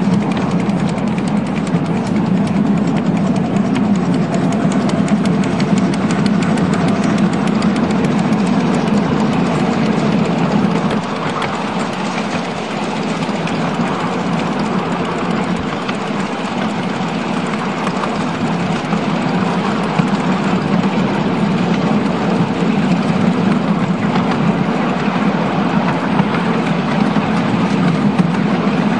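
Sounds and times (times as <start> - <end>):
miniature train rumbling on track: 0.0 - 28.9.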